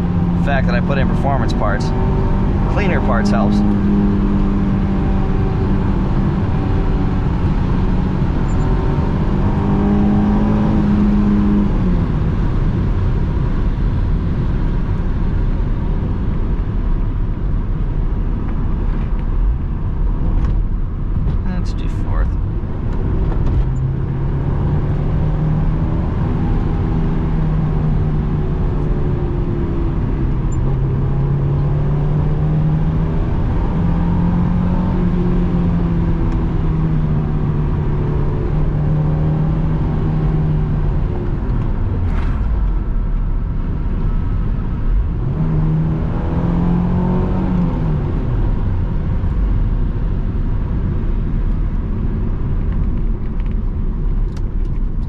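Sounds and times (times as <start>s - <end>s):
car engine from inside cabin: 0.0s - 55.0s
tyre and road noise: 0.0s - 55.0s.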